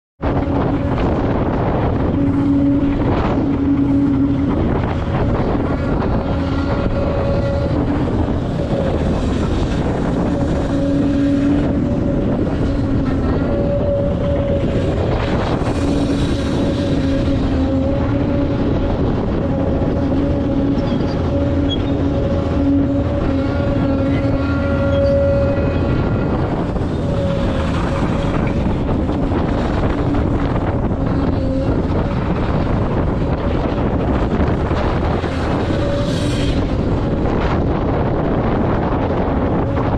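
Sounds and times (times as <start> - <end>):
heavy diesel machinery drone: 0.2 - 39.9
pitched machine whine: 0.2 - 39.9.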